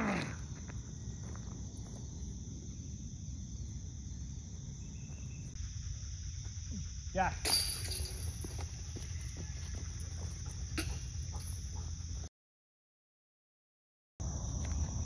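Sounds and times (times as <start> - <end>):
high-pitched insect chorus: 0.0 - 12.3, 14.2 - 15.0.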